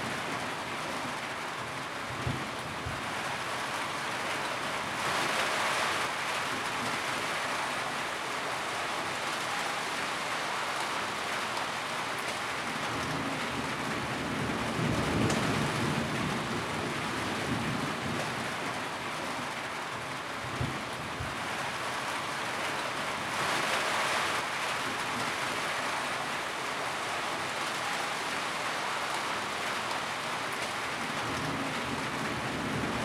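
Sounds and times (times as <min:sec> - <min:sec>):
rain on a tin roof: 0:00.0 - 0:33.0.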